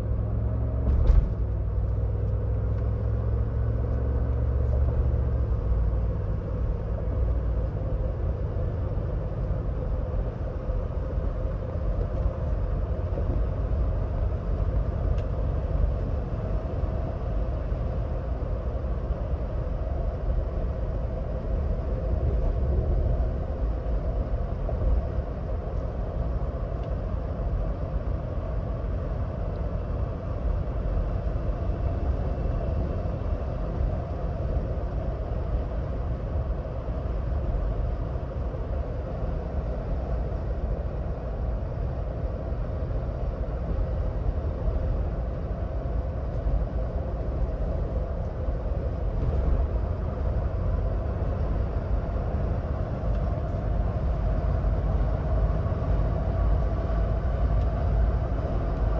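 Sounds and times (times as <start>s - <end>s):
tyre wind and engine rumble: 0.0s - 58.9s.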